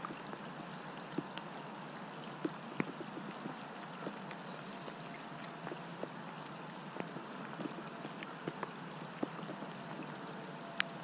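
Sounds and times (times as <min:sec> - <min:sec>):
small clicks and ticks: 0:01.1 - 0:01.5, 0:02.3 - 0:11.0.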